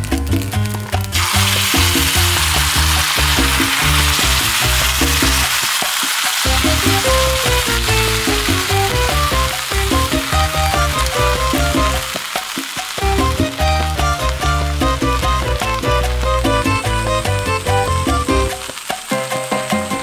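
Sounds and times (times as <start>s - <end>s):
background music: 0.0s - 20.0s
sauce sizzling in a skillet: 0.5s - 20.0s.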